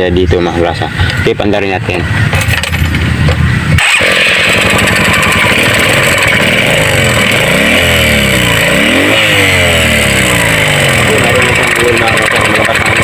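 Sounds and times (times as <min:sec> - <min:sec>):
motorcycle engine revving: 0:02.1 - 0:13.0.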